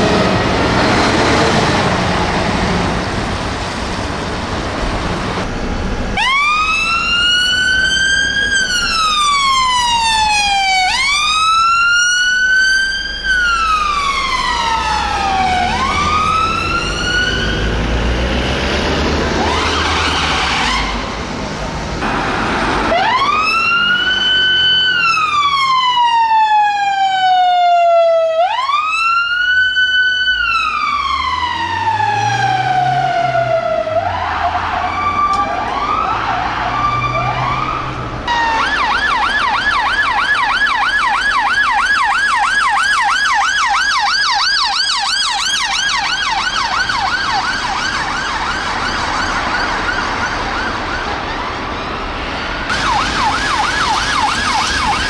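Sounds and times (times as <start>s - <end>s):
emergency vehicle sirens: 0.0s - 55.0s.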